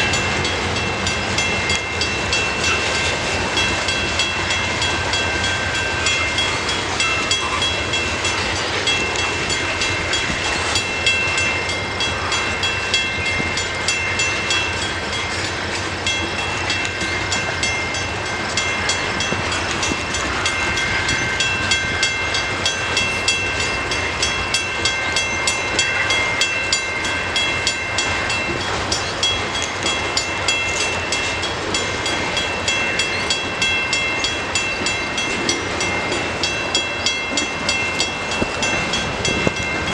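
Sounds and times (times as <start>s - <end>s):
freight train rolling past: 0.0s - 39.9s
wheels clicking over rail joints: 0.0s - 39.9s.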